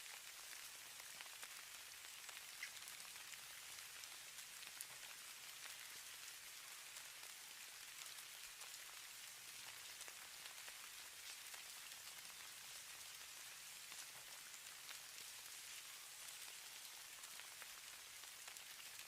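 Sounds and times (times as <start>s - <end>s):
falling snow hissing and ticking: 0.0s - 19.0s.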